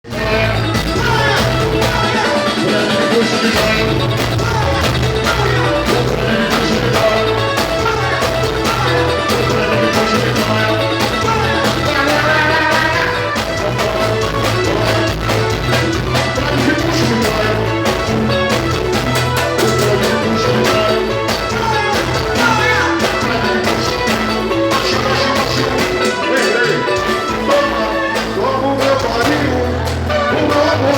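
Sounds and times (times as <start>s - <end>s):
latin american style music: 0.0s - 30.9s.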